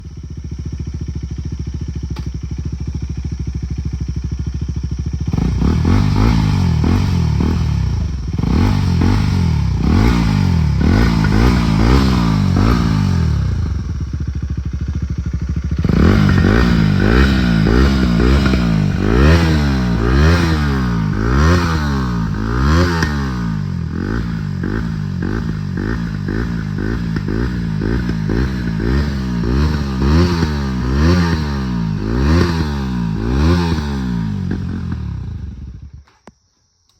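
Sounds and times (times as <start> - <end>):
motorcycle engine revving unsilenced: 5.2 - 36.9.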